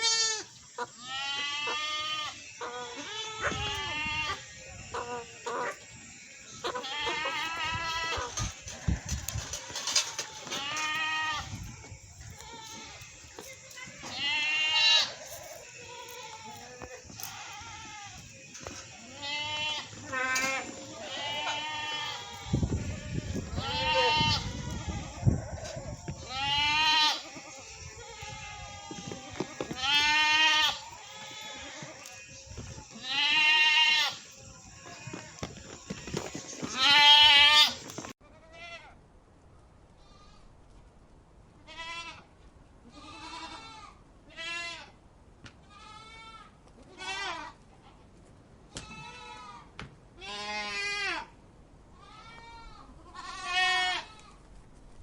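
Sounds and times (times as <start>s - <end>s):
goats bleating: 0.0s - 38.9s, 42.9s - 44.9s, 45.7s - 47.6s, 50.2s - 51.3s, 52.0s - 54.4s.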